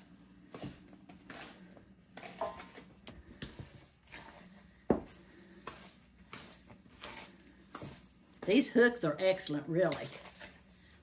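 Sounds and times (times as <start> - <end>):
batter squishing while stirred: 0.0 - 11.0.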